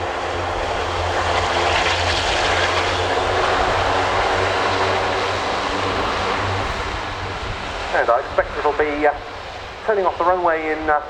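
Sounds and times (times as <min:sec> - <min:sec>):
turboprop engines running: 0:00.0 - 0:11.0.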